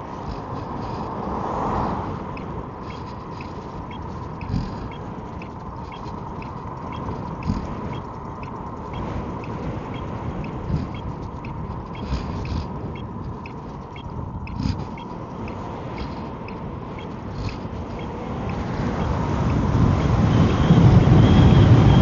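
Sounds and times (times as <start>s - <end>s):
electric scooter motor whine: 0.0s - 22.0s
wind buffeting microphone: 0.0s - 22.0s.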